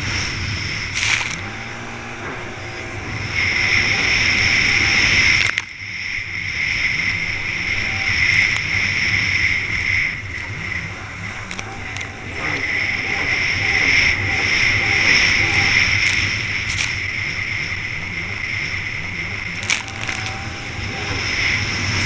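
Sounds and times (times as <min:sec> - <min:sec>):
jet ski engine whining: 0:00.0 - 0:22.0
wind noise: 0:00.0 - 0:22.0.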